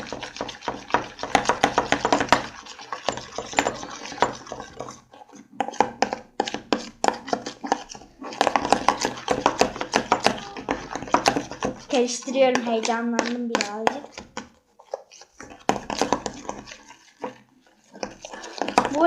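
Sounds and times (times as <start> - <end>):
spoon stirring slime in bowl: 0.0 - 19.0.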